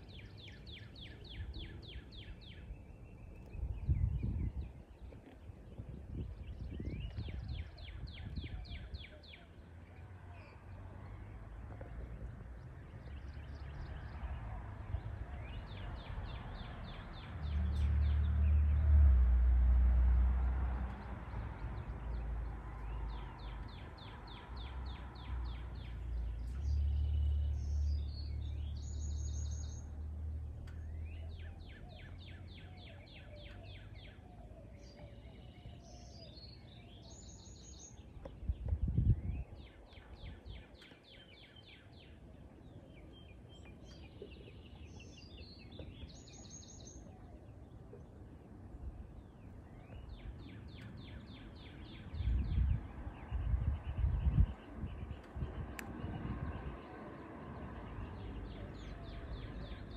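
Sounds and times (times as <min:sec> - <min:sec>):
songbirds trilling: 0:00.0 - 0:19.0, 0:20.4 - 0:59.9.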